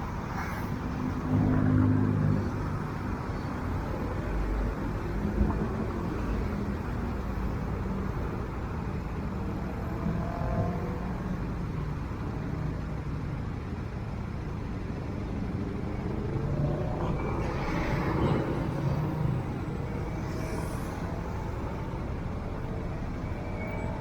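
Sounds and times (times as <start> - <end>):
road rumble: 0.0 - 24.0.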